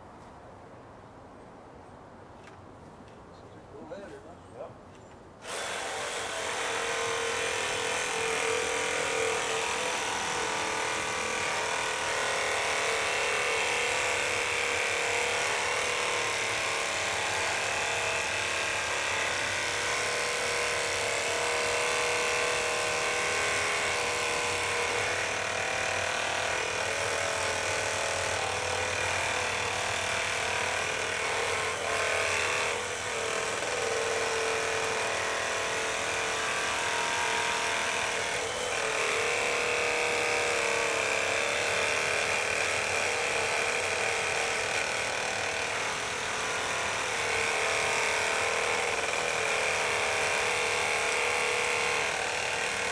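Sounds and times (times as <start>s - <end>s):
electric pole saw buzzing: 5.4s - 52.9s.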